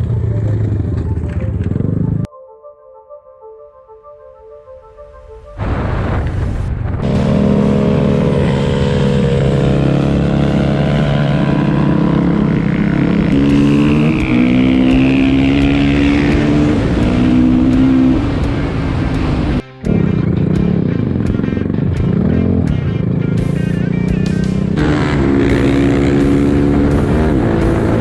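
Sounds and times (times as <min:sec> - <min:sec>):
motorcycle engine running loudly: 0:00.0 - 0:02.3, 0:07.0 - 0:28.0.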